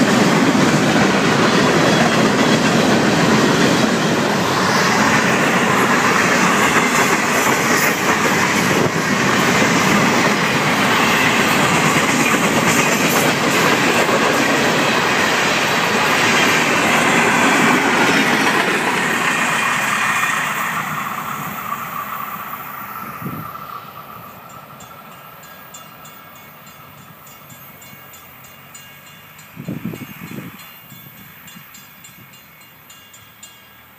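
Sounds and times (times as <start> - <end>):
train wheels rolling on rails: 0.0 - 33.9.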